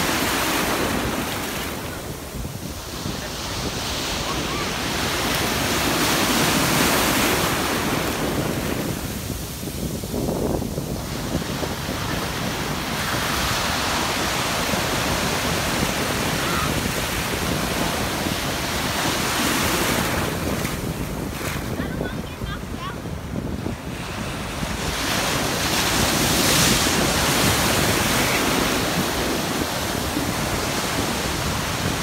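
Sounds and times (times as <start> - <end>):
ocean surf breaking: 0.0 - 32.0
wind buffeting microphone: 0.0 - 32.0.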